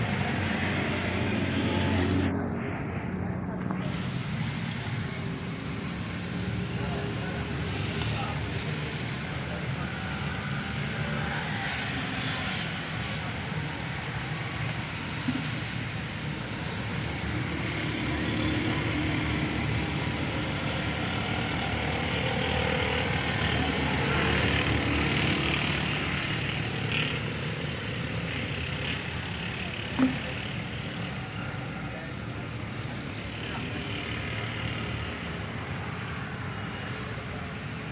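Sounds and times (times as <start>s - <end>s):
motor vehicle rumble and hiss: 0.0s - 37.9s.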